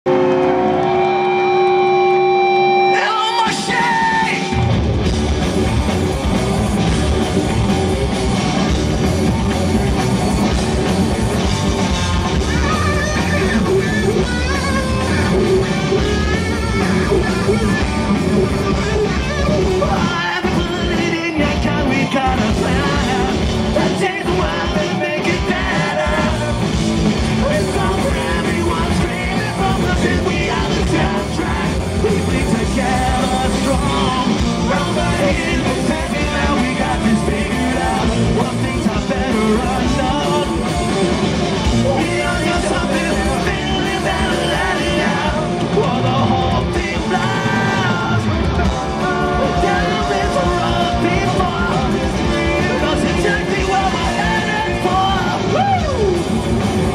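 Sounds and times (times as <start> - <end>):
punk rock band playing live: 0.0 - 56.9
singer singing and yelling: 0.1 - 56.9.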